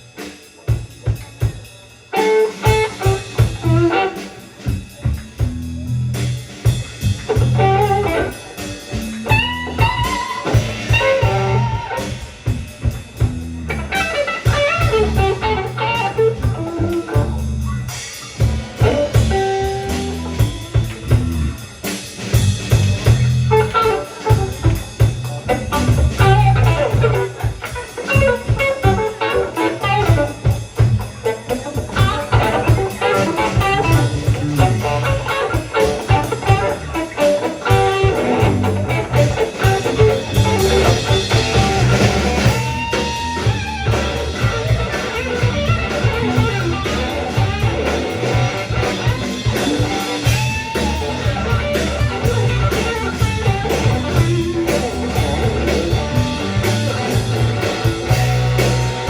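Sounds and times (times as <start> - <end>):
bass guitar: 0.0 - 59.0
drum kit: 0.0 - 59.0
guitar melody: 2.1 - 5.9, 6.7 - 21.6, 22.5 - 59.0.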